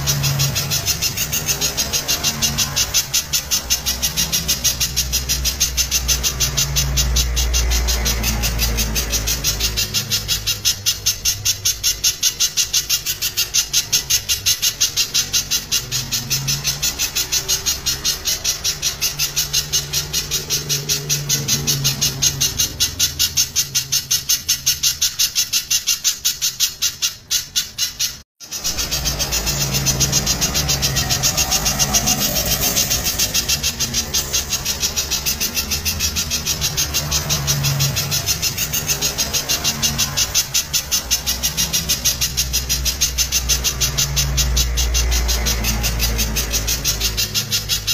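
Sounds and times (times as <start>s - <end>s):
bird calling in rapid notes: 0.0s - 47.9s.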